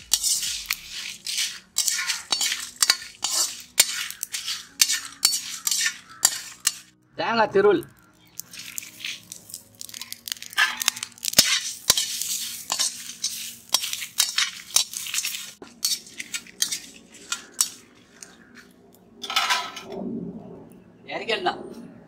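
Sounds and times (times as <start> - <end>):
crunchy rustling of dry spices: 0.0 - 6.9, 7.7 - 18.8
metal spatula scraping a pan: 0.0 - 6.9, 8.3 - 19.9.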